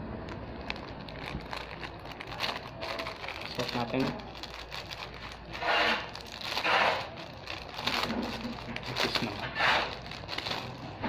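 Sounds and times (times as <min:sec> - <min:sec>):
plastic wrapper crinkling: 0:00.2 - 0:11.0.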